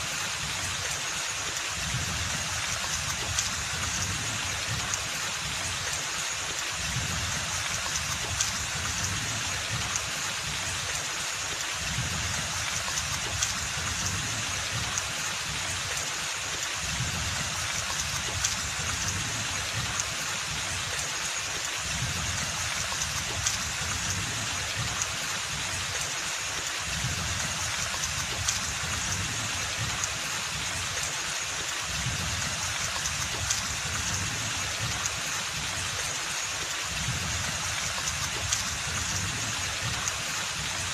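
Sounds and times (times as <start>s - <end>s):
rain falling in forest: 0.0s - 40.9s.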